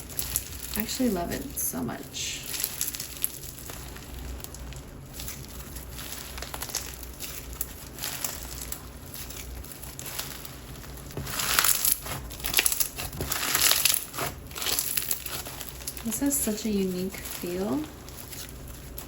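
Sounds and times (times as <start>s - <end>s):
slime squished by hand: 0.0s - 1.5s, 2.4s - 19.0s.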